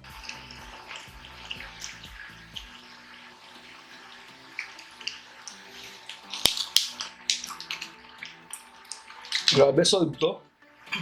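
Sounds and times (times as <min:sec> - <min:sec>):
faint background music: 0:00.0 - 0:11.0
quiet chewing: 0:00.1 - 0:09.6.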